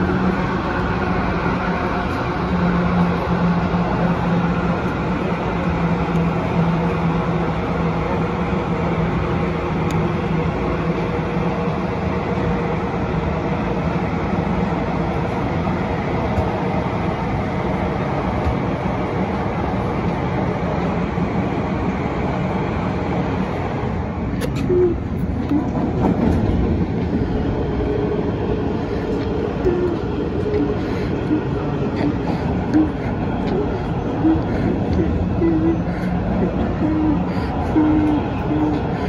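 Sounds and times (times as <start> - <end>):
low motor hum: 0.0 - 39.0
train wheels rumbling on rail: 0.0 - 39.0.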